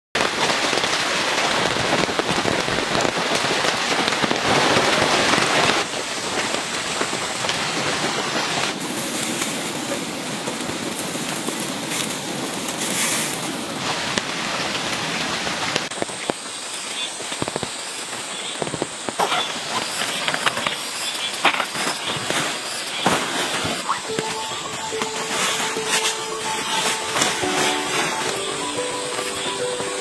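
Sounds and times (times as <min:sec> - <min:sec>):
raindrops tapping close by: 0:00.2 - 0:30.0
steady rain falling: 0:00.2 - 0:30.0.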